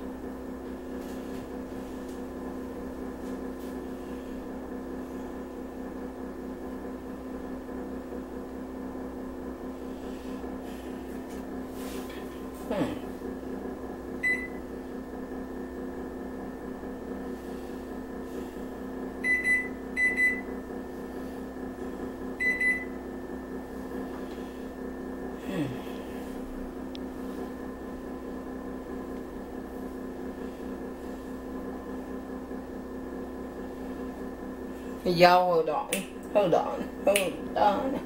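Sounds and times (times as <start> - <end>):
microwave oven humming: 0.0 - 38.0.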